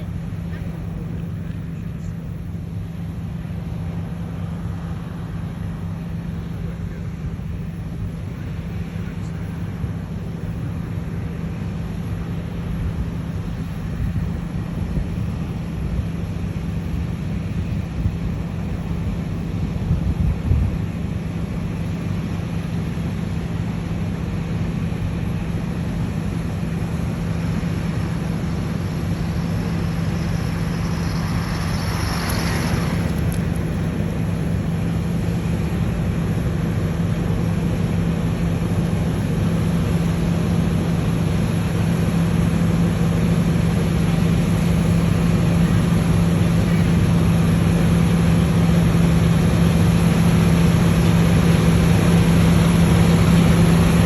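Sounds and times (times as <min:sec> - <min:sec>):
combine harvester droning: 0:00.0 - 0:54.0.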